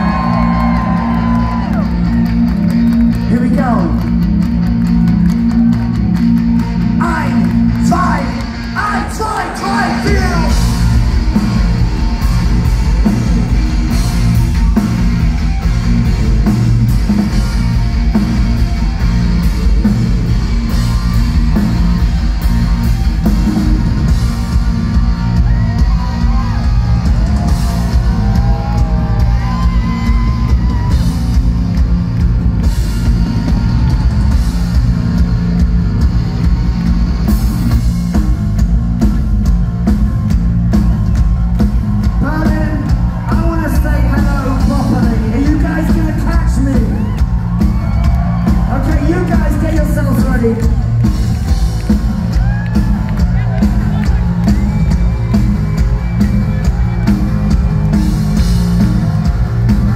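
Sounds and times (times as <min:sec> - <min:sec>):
crowd yelling: 0:00.0 - 0:03.8, 0:04.8 - 0:59.9
rock band playing live: 0:00.0 - 0:59.9.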